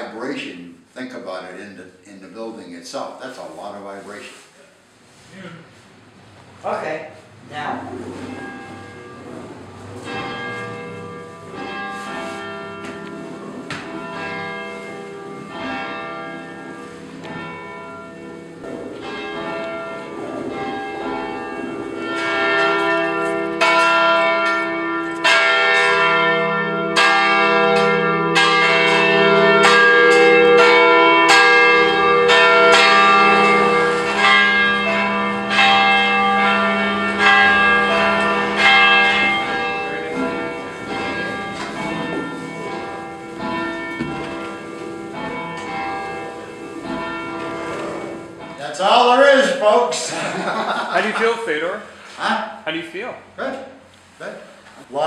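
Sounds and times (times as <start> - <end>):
church bells ringing: 0.0 - 2.5, 6.6 - 53.3.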